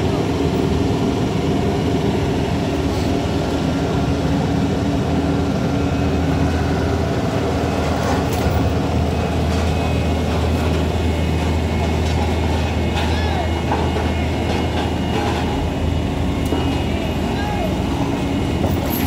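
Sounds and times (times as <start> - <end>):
heavy truck engine droning: 0.0 - 19.0.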